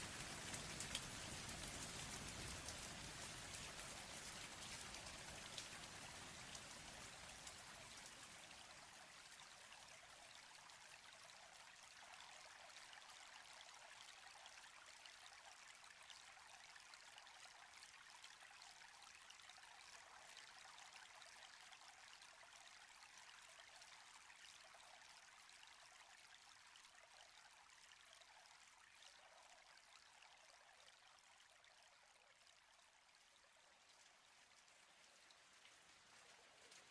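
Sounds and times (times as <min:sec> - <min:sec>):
faint rain patter: 0:00.0 - 0:36.9.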